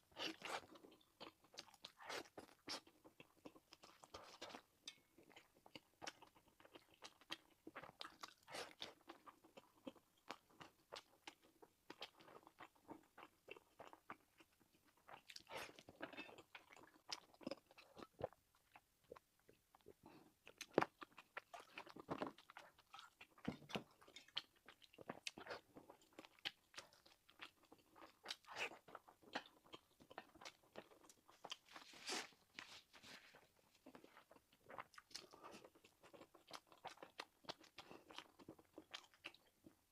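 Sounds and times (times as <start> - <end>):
crunchy chewing of food: 0.0 - 39.9.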